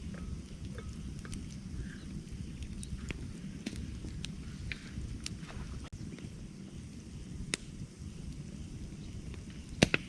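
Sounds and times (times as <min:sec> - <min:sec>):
campfire pops and snaps: 0:00.0 - 0:06.3, 0:07.2 - 0:10.0
fire burning rumble: 0:00.0 - 0:10.0.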